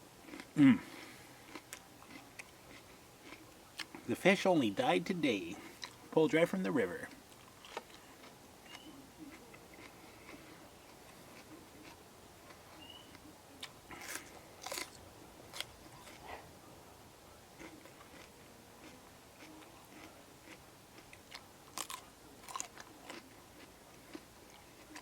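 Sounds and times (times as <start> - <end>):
person chewing crunchy vegetables: 0.2 - 16.6, 17.4 - 25.0.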